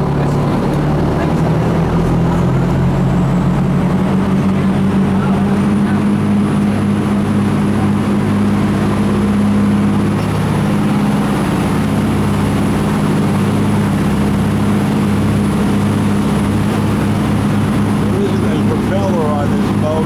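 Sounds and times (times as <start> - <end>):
boat engine droning: 0.0 - 20.0
water rushing: 0.0 - 20.0.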